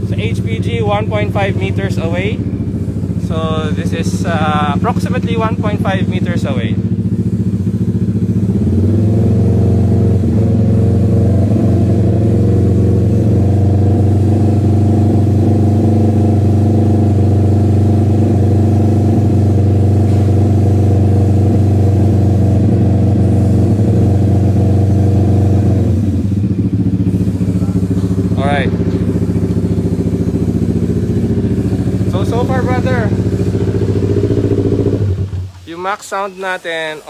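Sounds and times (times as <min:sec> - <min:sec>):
motorcycle engine revving: 0:00.0 - 0:35.8.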